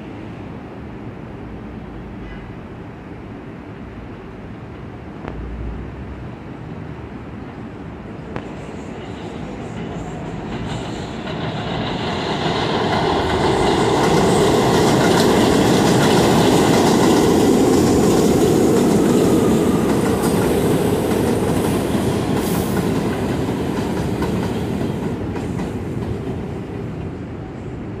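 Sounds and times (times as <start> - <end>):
subway train wheels rumbling on rails: 0.0 - 28.0.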